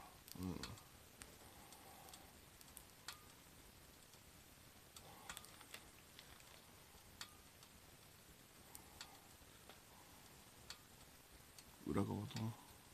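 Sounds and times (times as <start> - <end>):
faint ticks and pops of cooking food: 0.0 - 12.9.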